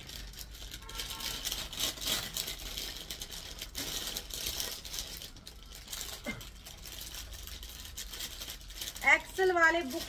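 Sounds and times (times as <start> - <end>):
fabric rustling and crinkling: 0.0 - 10.0.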